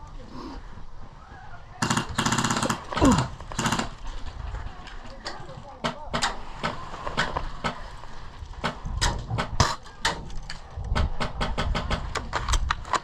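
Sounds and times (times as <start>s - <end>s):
sharp clicks and cracks: 1.8s - 13.0s.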